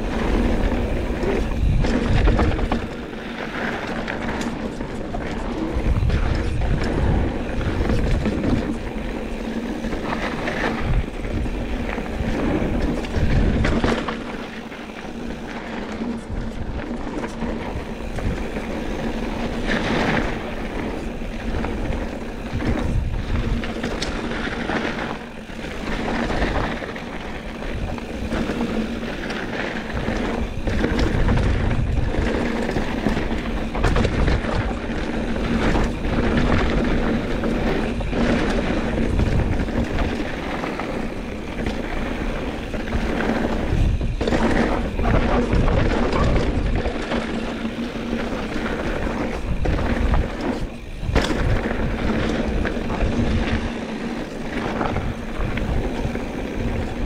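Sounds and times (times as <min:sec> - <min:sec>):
bike knocks and rattles: 0:00.0 - 0:57.0
bike tyre and riding noise: 0:00.0 - 0:57.0.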